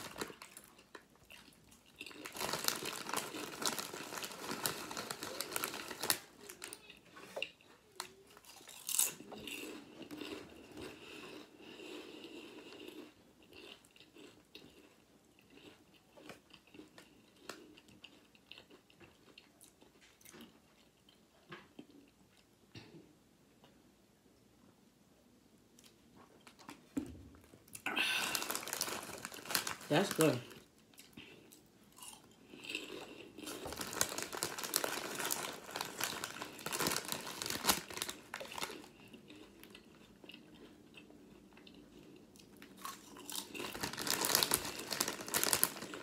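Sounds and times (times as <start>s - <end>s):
person crunching and chewing: 0.0s - 22.5s, 27.6s - 46.0s.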